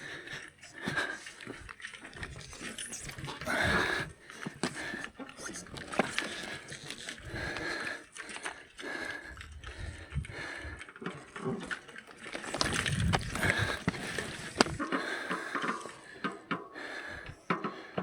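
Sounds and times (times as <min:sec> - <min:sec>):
footsteps on loose stones: 0:00.0 - 0:17.5
person breathing hard: 0:00.0 - 0:18.0.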